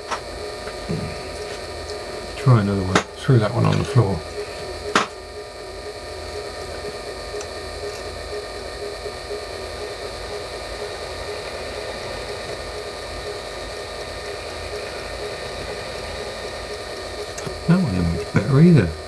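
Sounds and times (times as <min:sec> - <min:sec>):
lathe motor hum and whine: 0:00.0 - 0:19.0.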